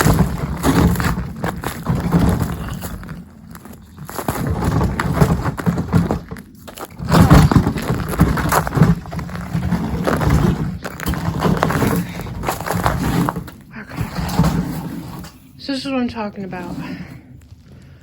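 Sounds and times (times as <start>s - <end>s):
crunching and crackling: 0.0s - 18.0s.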